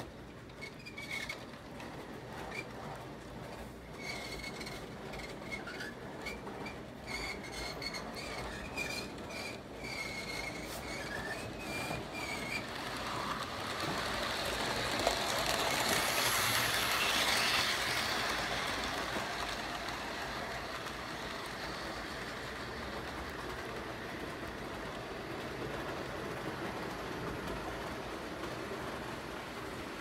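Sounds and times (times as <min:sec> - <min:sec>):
model train wheels rattling: 0:00.4 - 0:30.0.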